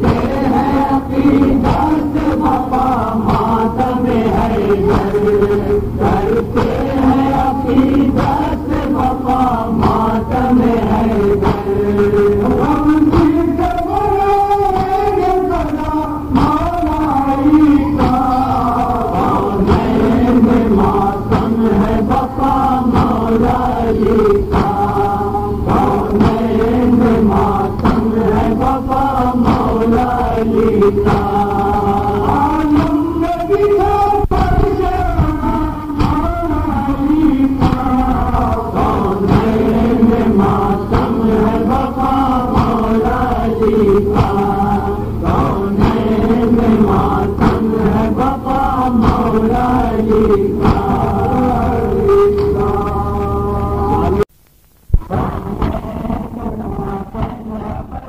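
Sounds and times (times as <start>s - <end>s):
men chanting a lament: 0.0s - 54.3s, 55.0s - 58.0s.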